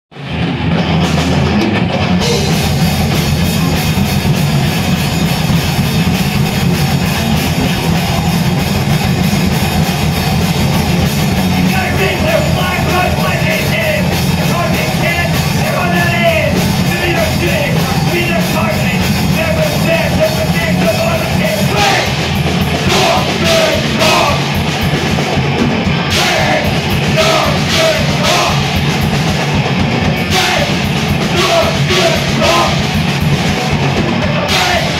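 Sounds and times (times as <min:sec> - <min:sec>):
distorted electric guitars: 0:00.1 - 0:34.9
drum kit: 0:00.1 - 0:34.9.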